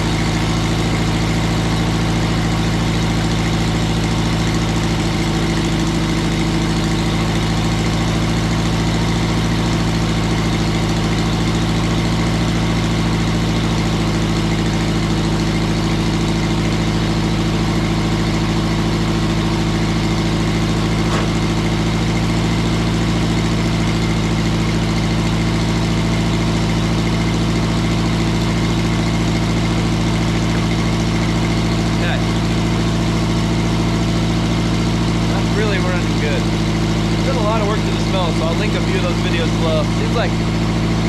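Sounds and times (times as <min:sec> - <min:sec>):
sawmill engine idling: 0:00.0 - 0:41.0.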